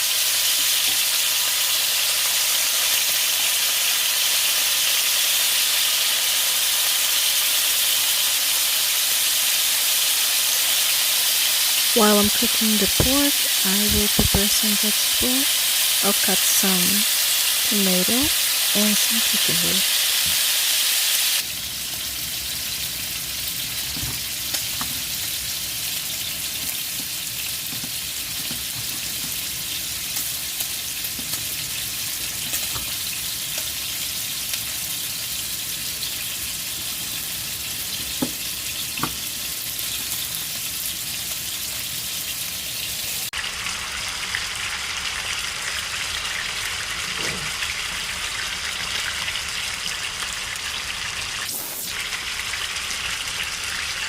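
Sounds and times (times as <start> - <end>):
pork chops sizzling in oil: 0.0 - 54.0.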